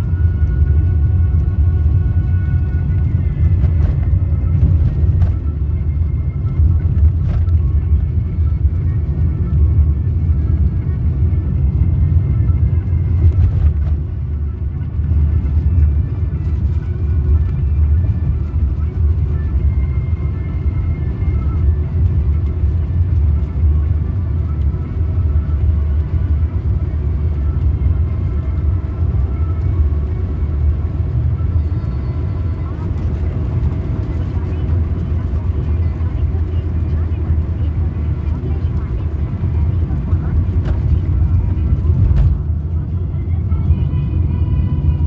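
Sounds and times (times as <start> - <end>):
faint music: 0.0 - 45.0
vehicle rumble: 0.0 - 45.0.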